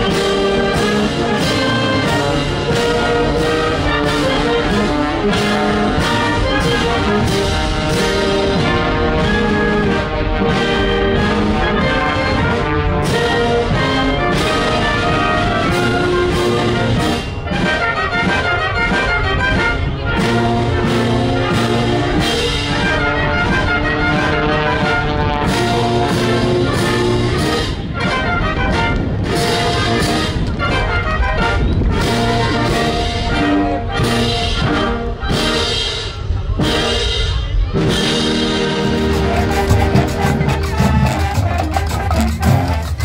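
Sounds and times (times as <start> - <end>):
orchestral music with brass: 0.0 - 43.0.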